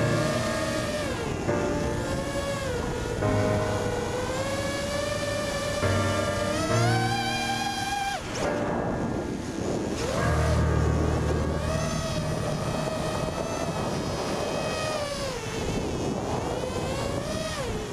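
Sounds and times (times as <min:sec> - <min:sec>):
quadcopter motors whining: 0:00.0 - 0:17.9.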